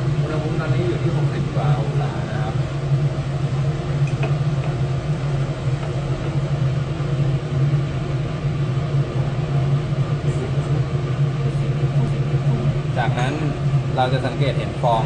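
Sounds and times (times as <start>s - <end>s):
exhaust fan humming: 0.0s - 15.0s.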